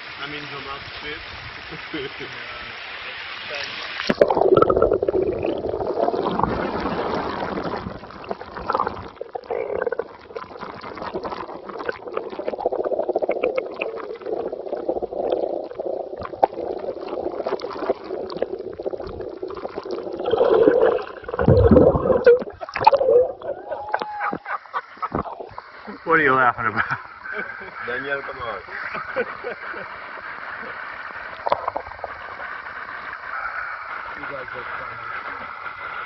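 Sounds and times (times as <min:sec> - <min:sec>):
running water gurgling: 0:00.0 - 0:36.0.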